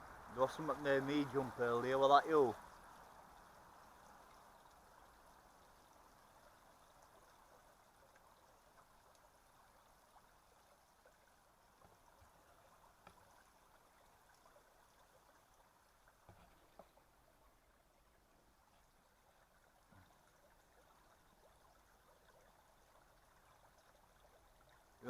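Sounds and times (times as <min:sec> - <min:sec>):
stream water trickling: 0:00.0 - 0:25.0.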